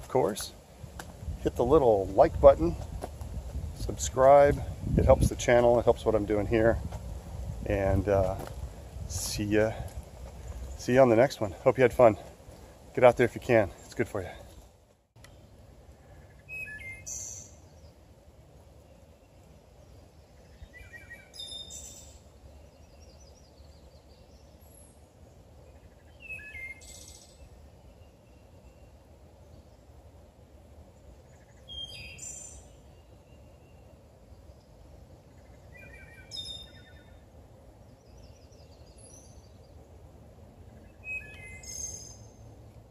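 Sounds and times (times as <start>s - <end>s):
songbird singing: 0.0s - 42.9s.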